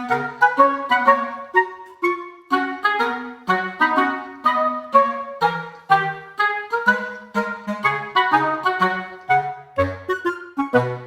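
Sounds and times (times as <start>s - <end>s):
instrumental melody of plucked notes: 0.0s - 11.0s.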